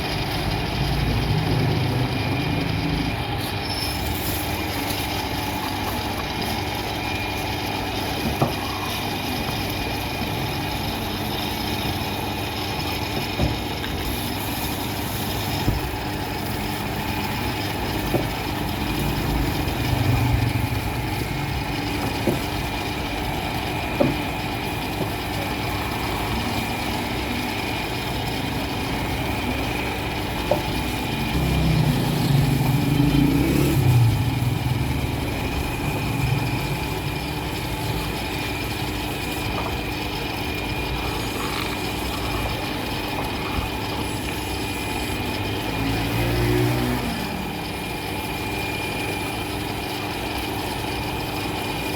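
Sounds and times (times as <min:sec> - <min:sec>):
motor-driven machine running: 0:00.0 - 0:51.9.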